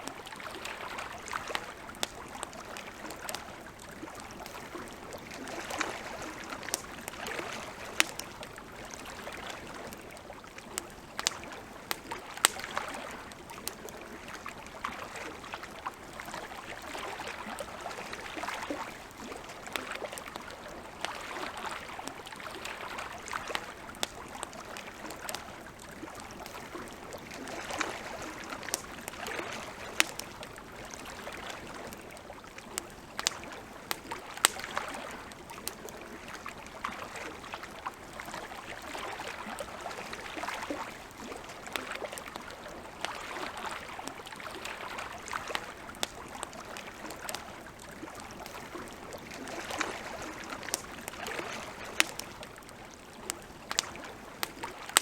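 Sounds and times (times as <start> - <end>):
wood campfire crackling: 0.0 - 55.0.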